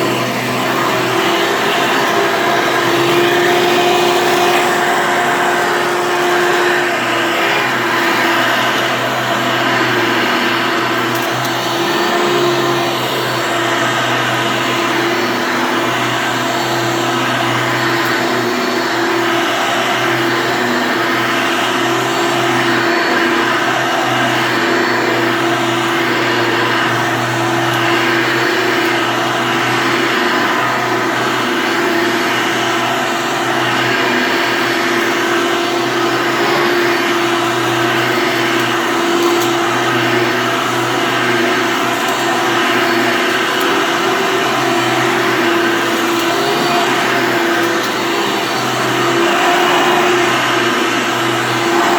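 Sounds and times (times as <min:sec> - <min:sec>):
upright vacuum cleaner running: 0:00.0 - 0:51.9.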